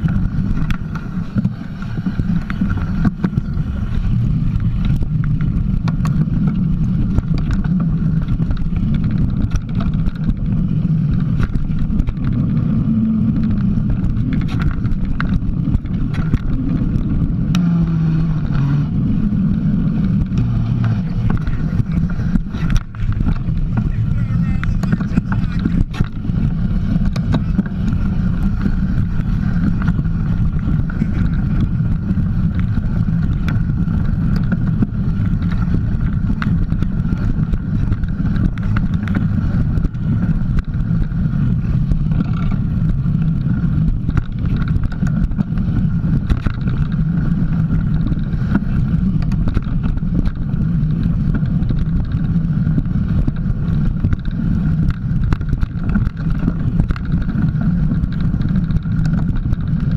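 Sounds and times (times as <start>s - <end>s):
bike knocks and rattles: 0.0s - 59.9s
bike tyres rumbling on dirt: 0.0s - 59.9s.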